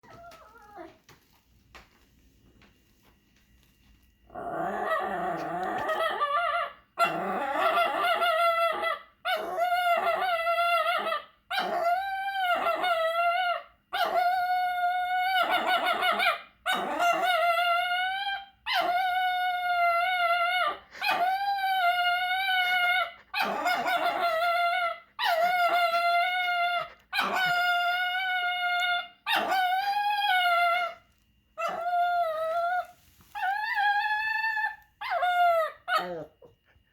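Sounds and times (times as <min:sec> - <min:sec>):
dog howling: 0:04.3 - 0:31.0, 0:31.6 - 0:36.4.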